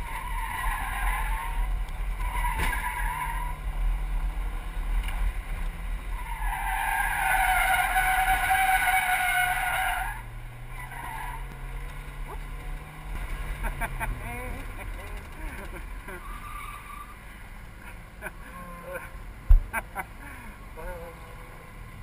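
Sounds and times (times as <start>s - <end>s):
car engine: 0.0s - 22.0s.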